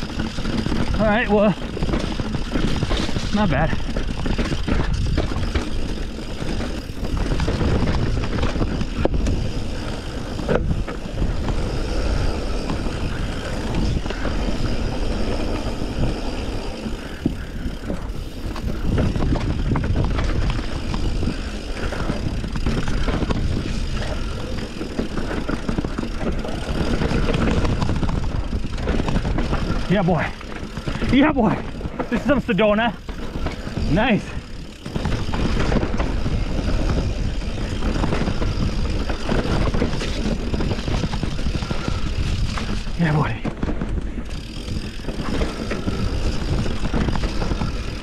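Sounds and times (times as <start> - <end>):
bike tyres and rushing air: 0.0 - 48.0.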